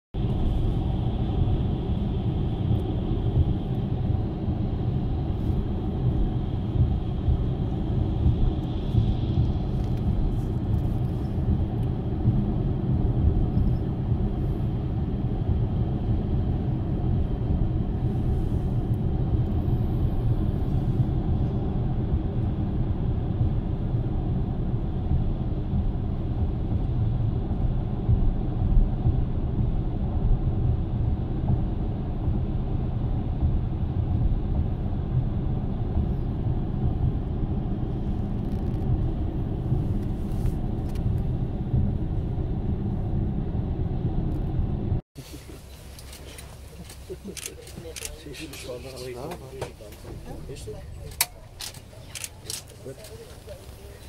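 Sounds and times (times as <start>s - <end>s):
car engine hum: 0.2s - 54.0s
tyre and road noise: 0.2s - 54.0s.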